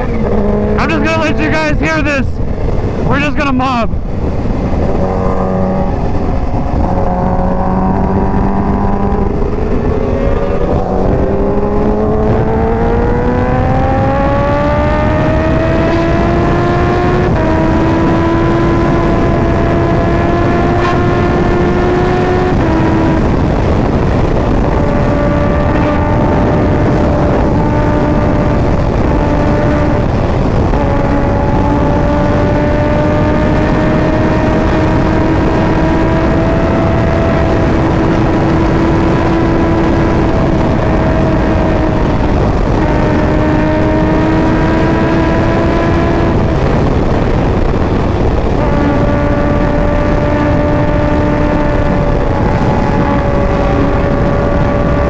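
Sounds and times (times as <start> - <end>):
motorcycle engine revving: 0.0 - 3.3, 3.9 - 55.0
wind noise rushing: 0.0 - 55.0.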